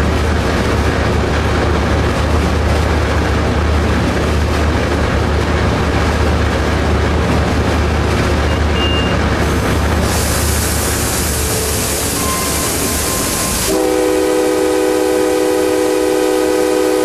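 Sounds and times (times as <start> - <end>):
locomotive engine drone: 0.0 - 17.0
train wheels rushing on rail: 0.0 - 17.0.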